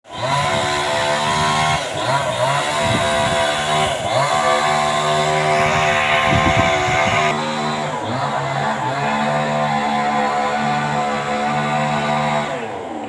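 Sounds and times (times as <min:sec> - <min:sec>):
small engine running: 0:00.1 - 0:13.0.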